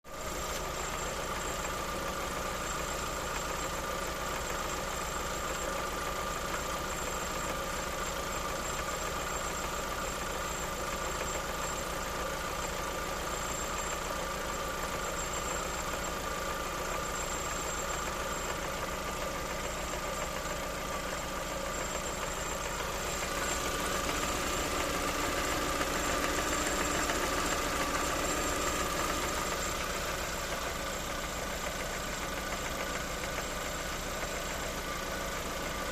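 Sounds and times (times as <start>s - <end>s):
car engine idling with knocking: 0.1s - 35.9s.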